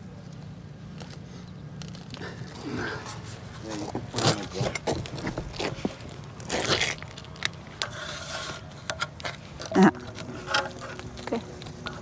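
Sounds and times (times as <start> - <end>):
rope and harness scraping and clicking: 1.8 - 12.0.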